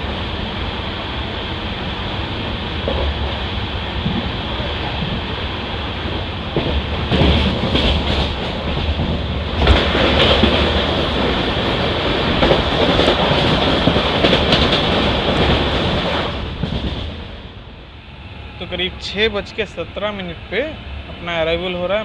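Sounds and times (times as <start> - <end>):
train rail noise: 0.0 - 22.0.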